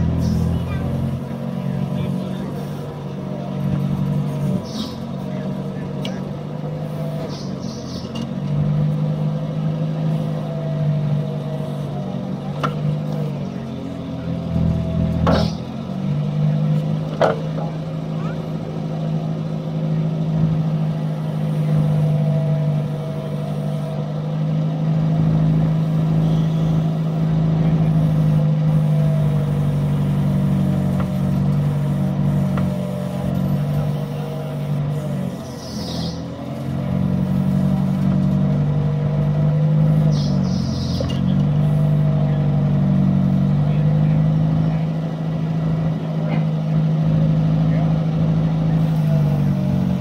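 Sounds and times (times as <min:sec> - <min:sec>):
backhoe engine running: 0:00.0 - 0:50.0.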